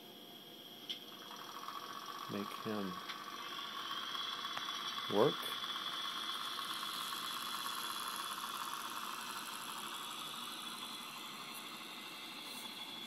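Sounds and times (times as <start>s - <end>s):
model train running on track: 0.9s - 13.0s.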